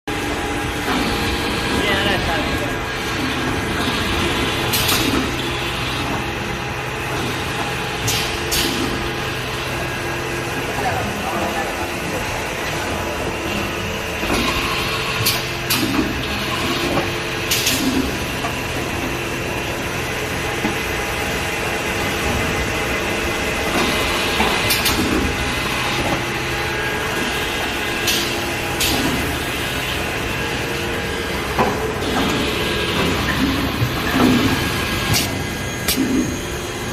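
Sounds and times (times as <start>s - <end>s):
machine hum: 0.1s - 36.9s.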